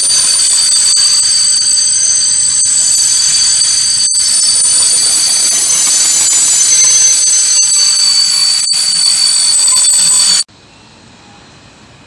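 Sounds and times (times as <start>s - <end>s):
high-pitched wheel squeal: 0.0s - 10.5s.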